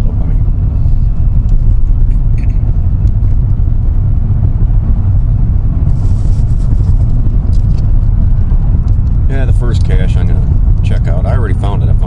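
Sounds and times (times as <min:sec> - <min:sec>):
tyre and engine rumble: 0:00.0 - 0:12.0.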